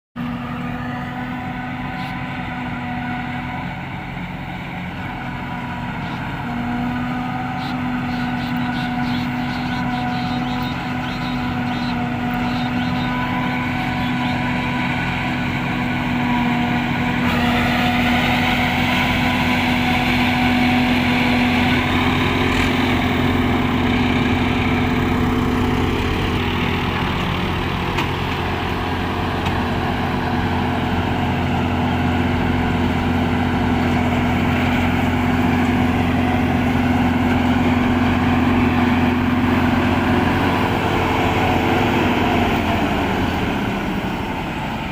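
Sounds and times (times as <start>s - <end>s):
harvester engine and machinery hum: 0.2s - 44.9s.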